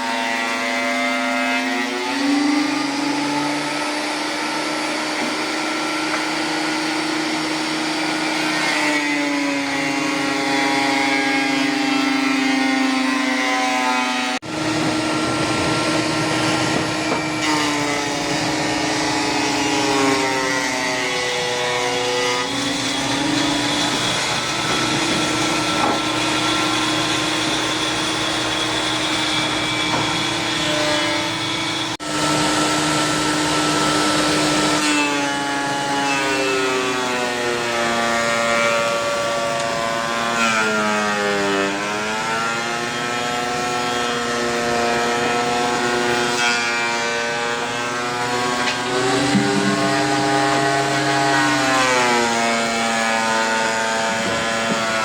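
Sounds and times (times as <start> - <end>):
thickness planer motor whine: 0.0 - 55.0.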